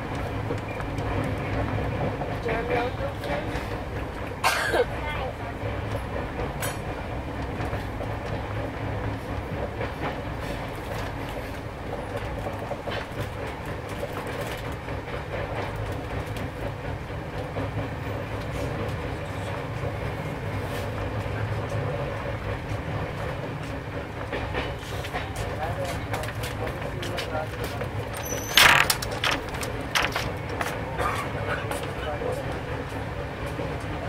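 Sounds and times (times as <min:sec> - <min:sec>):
train rumbling: 0:00.0 - 0:34.0
wheels clicking on track: 0:00.0 - 0:34.0.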